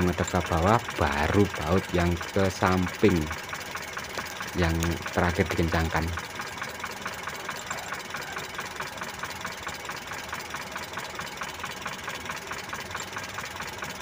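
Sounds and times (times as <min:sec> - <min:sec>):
car engine idling with ticking: 0:00.0 - 0:14.0.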